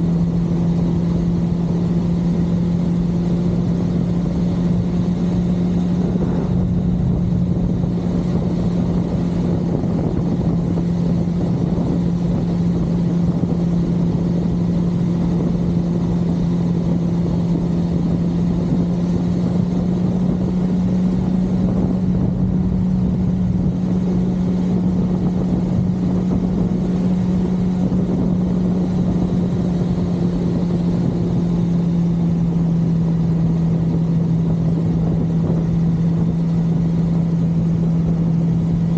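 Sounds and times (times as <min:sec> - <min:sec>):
motorcycle engine cruising: 0:00.0 - 0:38.9
wind noise rumble: 0:00.0 - 0:38.9.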